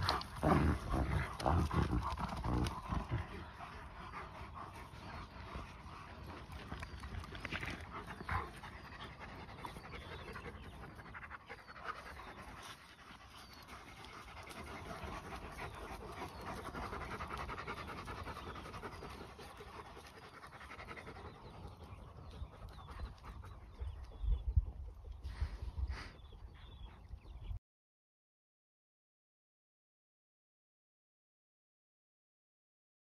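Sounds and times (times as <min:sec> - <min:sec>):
dogs panting: 0:00.0 - 0:27.6.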